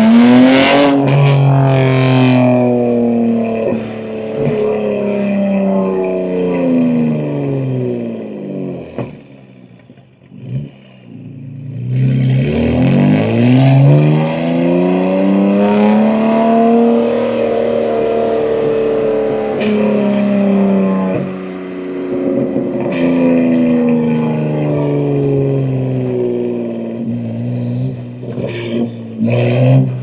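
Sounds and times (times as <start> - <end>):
car engine revving and accelerating: 0.0 - 30.0.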